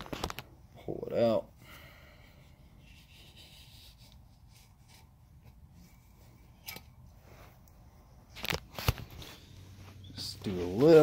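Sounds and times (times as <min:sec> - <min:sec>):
faint rubbing and scraping: 0:02.2 - 0:11.0.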